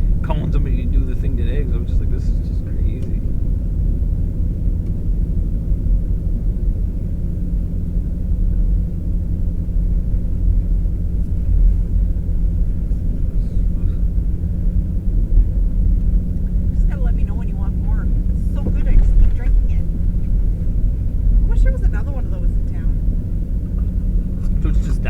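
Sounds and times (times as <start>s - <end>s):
steady low hum: 0.0s - 25.0s
truck engine and tyres rumbling: 0.0s - 25.0s.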